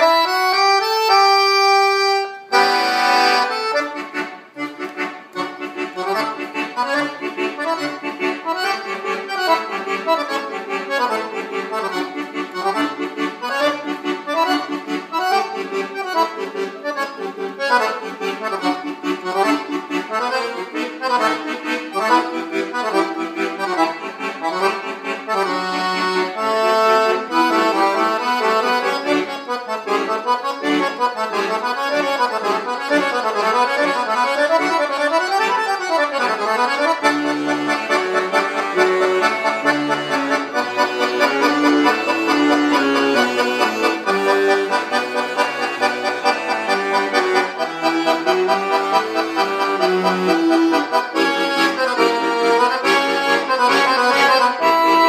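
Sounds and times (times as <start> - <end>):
piano accordion playing: 0.0 - 55.0.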